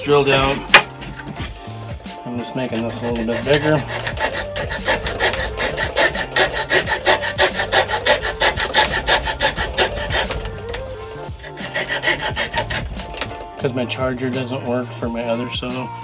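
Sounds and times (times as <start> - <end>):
hand tool rasping through wood: 0.0 - 14.5.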